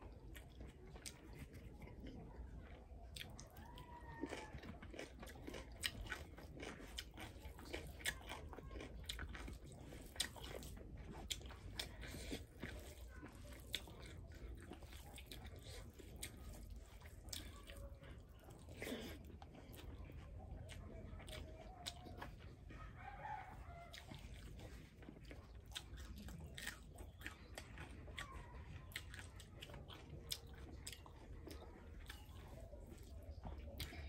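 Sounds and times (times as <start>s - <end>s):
chewing and lip-smacking: 0.0s - 34.0s.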